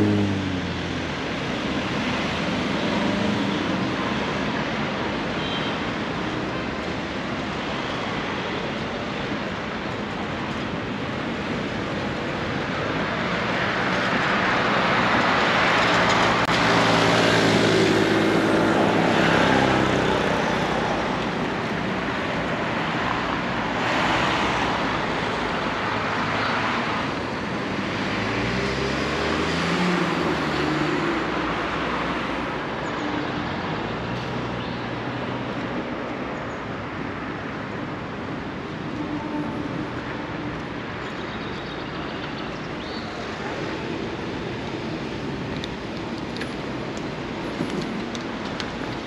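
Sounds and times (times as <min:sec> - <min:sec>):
street traffic: 0:00.0 - 0:49.0.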